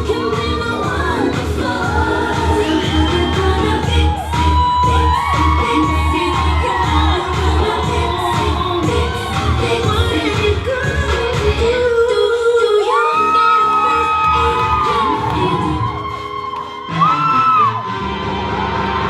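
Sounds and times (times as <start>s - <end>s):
pop dance music with singing: 0.0s - 18.0s.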